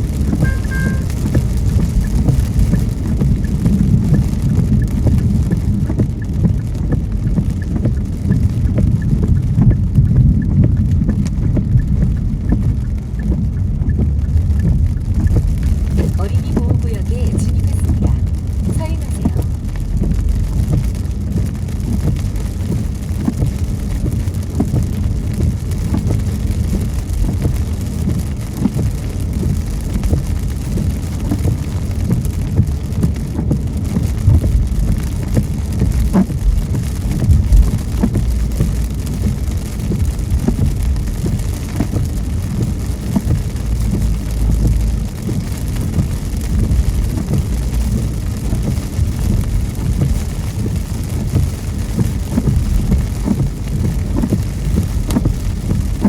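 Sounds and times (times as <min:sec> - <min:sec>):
car rumbling on road: 0:00.0 - 0:56.0
raindrops tapping on car: 0:00.0 - 0:56.0.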